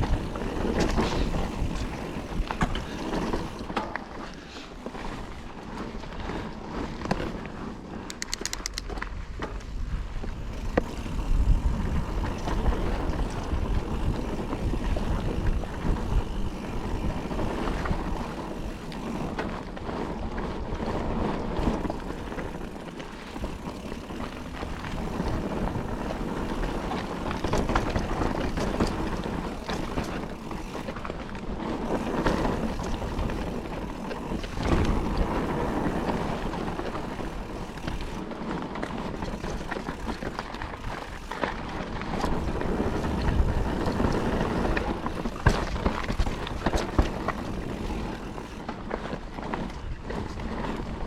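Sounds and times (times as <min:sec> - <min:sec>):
wind rushing over microphone: 0:00.0 - 0:03.6, 0:08.4 - 0:30.8, 0:31.7 - 0:51.0
tyres rolling over dirt and stones: 0:00.0 - 0:08.0, 0:08.9 - 0:51.0
bike rattling: 0:00.0 - 0:51.0.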